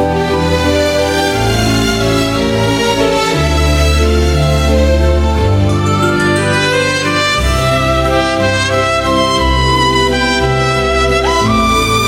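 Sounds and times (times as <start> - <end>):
orchestral music with brass: 0.0 - 12.0.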